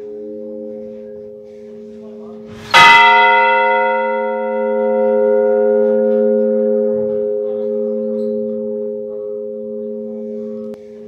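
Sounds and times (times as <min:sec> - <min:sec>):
large church bell ringing: 0:00.0 - 0:11.0.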